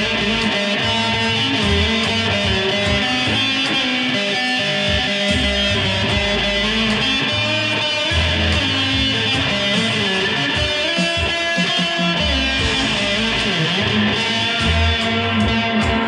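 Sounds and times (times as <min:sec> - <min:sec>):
low bass notes: 0:00.0 - 0:03.7, 0:04.9 - 0:10.4, 0:12.2 - 0:16.0
electric guitar through amplifier: 0:00.0 - 0:16.0.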